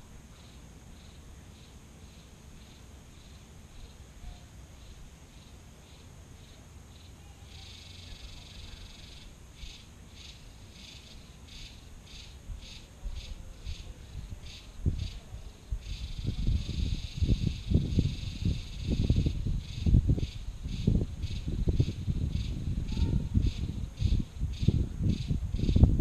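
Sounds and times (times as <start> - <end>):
insect chirping and buzzing: 0.0 - 26.0.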